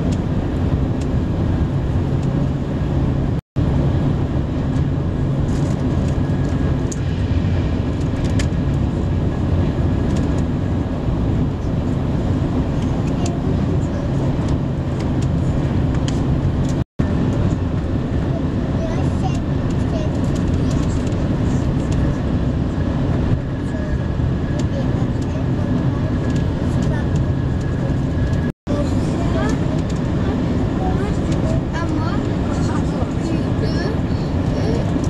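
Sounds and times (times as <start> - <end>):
train interior rumble: 0.0 - 35.0.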